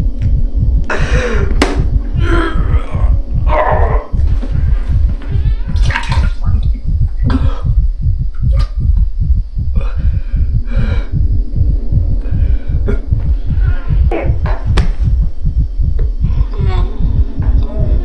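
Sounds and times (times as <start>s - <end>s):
deep throbbing pulse: 0.0s - 18.0s.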